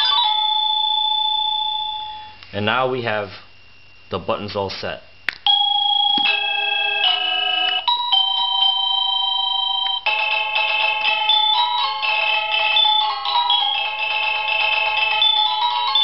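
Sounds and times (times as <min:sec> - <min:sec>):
electronic doorbell chime melodies: 0:00.0 - 0:02.4, 0:05.5 - 0:16.0.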